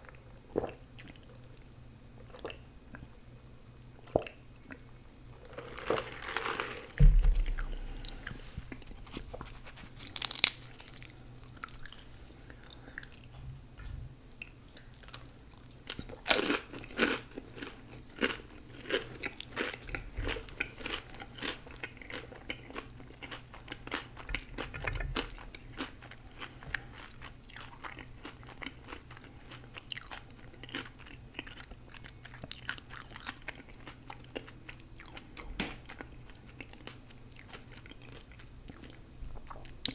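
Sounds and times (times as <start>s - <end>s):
crunchy food chewing: 4.1s - 13.3s, 14.7s - 39.9s.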